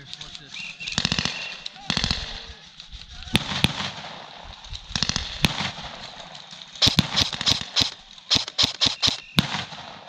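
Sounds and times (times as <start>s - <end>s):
airsoft rifle shots: 0.9s - 2.5s, 3.4s - 10.0s.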